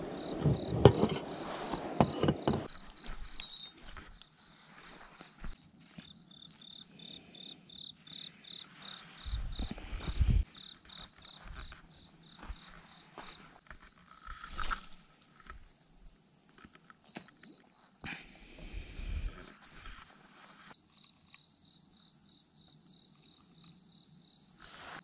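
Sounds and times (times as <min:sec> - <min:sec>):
insect chirping: 0:00.0 - 0:20.1, 0:20.8 - 0:24.7.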